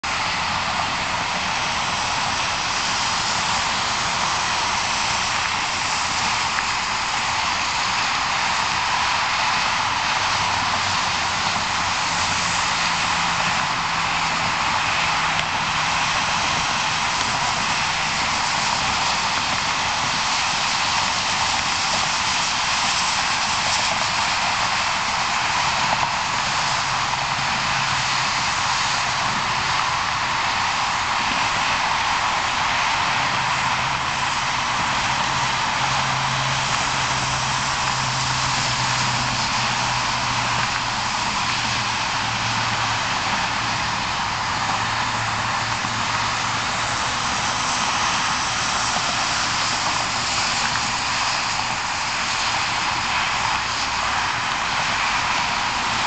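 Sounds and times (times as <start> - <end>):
steam hissing from locomotive: 0.0 - 56.0.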